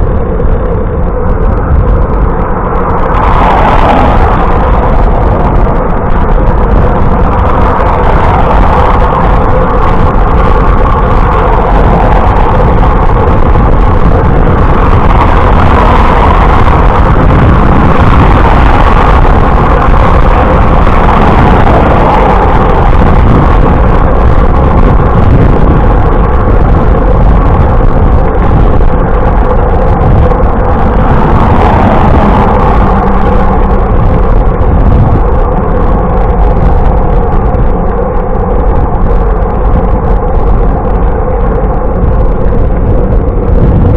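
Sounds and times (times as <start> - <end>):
road noise while cycling: 0.0 - 43.9
wind rush on microphone: 0.0 - 43.9.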